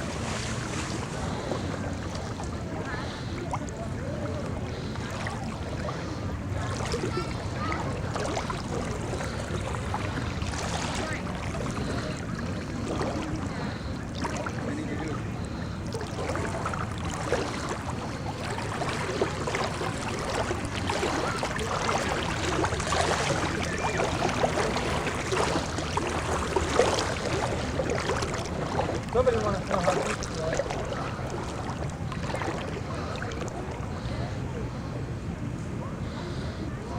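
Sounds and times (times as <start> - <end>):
floodwater sloshing and splashing: 0.0 - 35.0.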